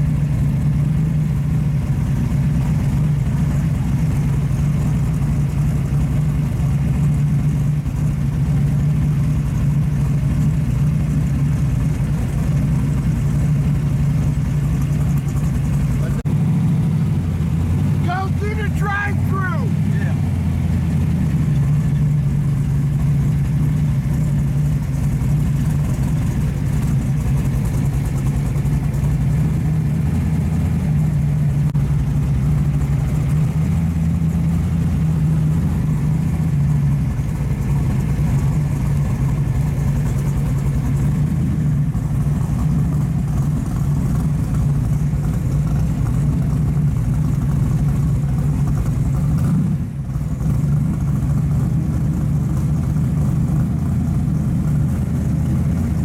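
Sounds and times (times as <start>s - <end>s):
car engine idling low drone: 0.0s - 56.0s.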